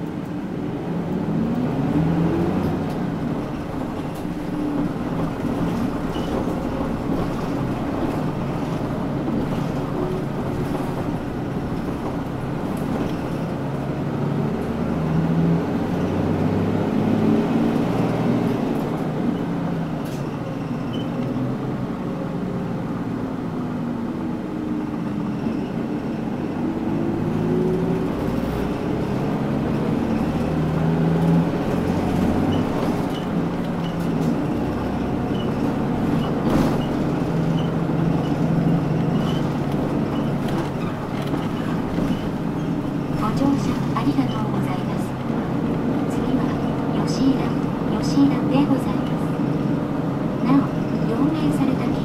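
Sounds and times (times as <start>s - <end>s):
bus diesel engine running: 0.0s - 52.0s
road noise: 0.0s - 52.0s.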